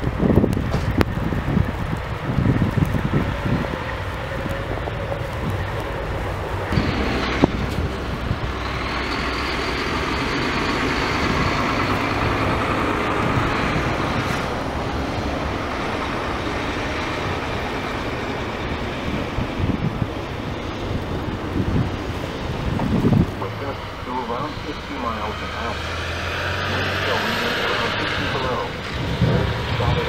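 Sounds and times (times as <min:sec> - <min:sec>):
truck engines running: 0:00.0 - 0:30.0
tyres rushing through snow: 0:00.0 - 0:30.0.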